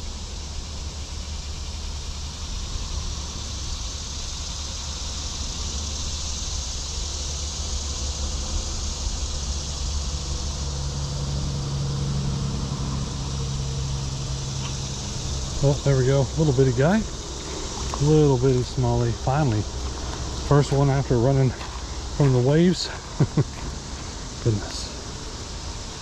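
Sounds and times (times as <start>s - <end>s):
low steady hum: 0.0s - 26.0s
creek water rushing: 4.4s - 26.0s.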